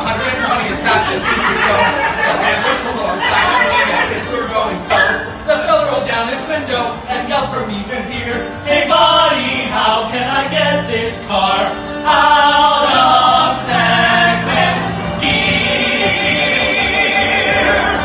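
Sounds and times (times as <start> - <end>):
musical backing with bass line: 0.0 - 18.0
voices singing: 0.0 - 18.0.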